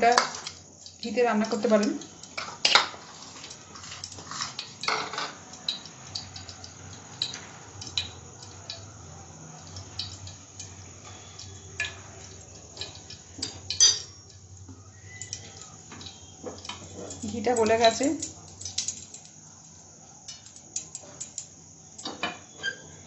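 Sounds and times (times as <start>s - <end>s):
ghee crackling in hot oil: 0.0s - 23.0s.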